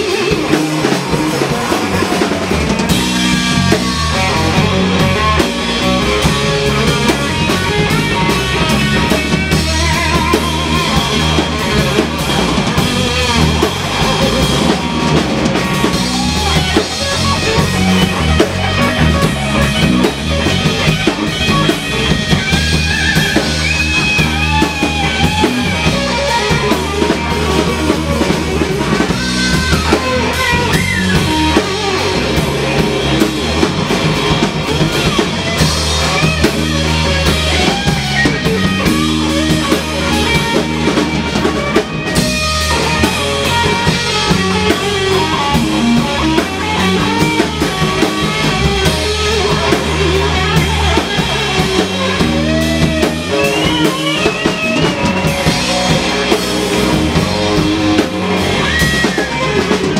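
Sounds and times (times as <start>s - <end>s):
bass guitar line: 0.0s - 59.9s
drum kit: 0.0s - 59.9s
electric guitar lead: 0.0s - 59.9s.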